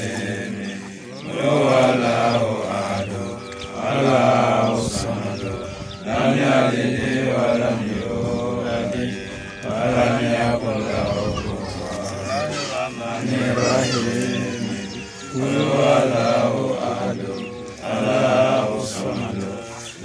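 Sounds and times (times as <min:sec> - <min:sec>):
man chanting a prayer: 0:00.0 - 0:20.0.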